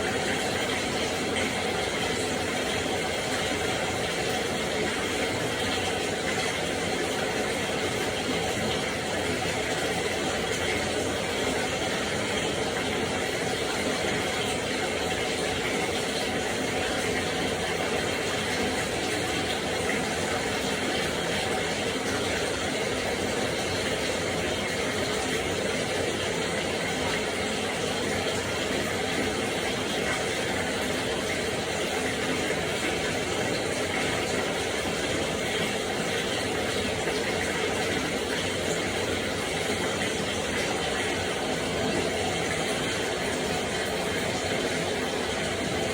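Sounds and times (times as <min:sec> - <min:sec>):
water running into a bathtub: 0:00.0 - 0:45.9.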